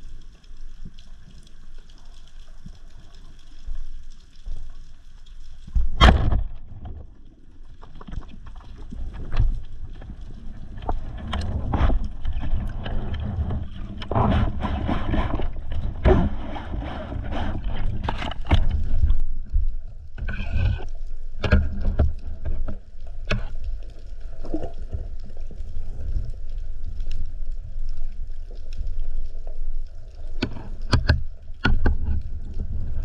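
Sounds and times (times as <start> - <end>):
water sloshing and gurgling: 0.0 - 33.0.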